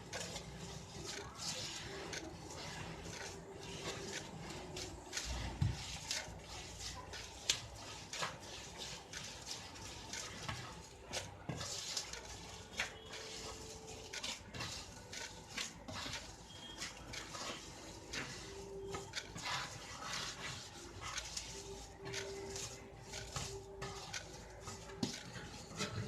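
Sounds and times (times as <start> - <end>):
dough kneaded by hand: 0.0 - 26.0.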